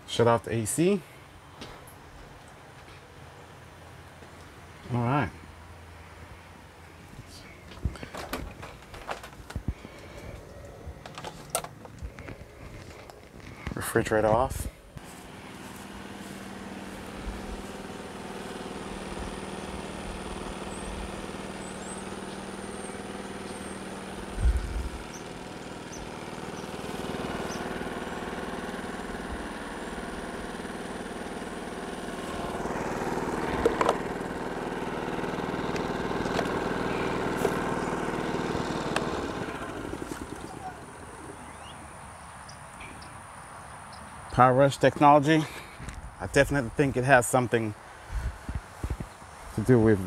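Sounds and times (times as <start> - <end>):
generator engine running: 0.0 - 50.0.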